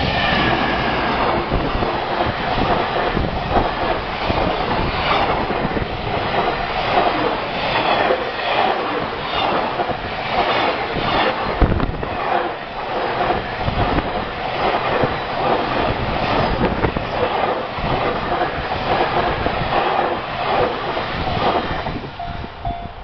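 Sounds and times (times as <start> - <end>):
freight train rumbling and rattling: 0.0 - 23.0.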